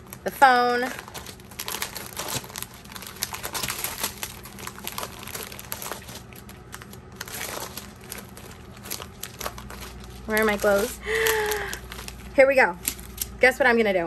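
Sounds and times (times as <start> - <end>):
plastic bags crinkling: 0.0 - 13.5
binder pages flipping: 1.1 - 13.4.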